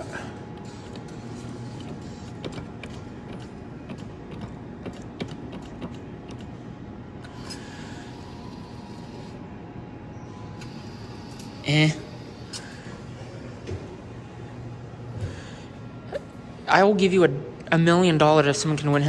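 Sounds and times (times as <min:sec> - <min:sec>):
claw machine mechanical hum: 0:00.0 - 0:19.0.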